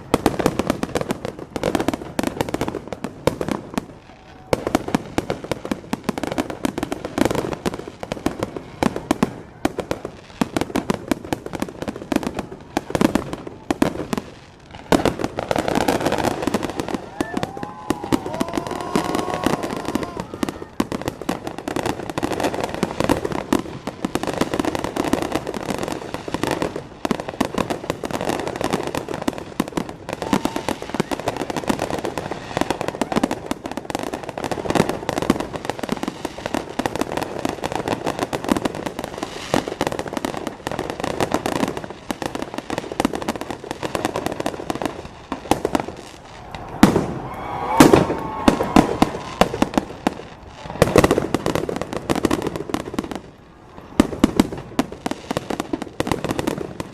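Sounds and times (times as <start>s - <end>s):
fireworks bangs: 0.0s - 56.9s
fireworks crackling pops: 0.0s - 56.9s.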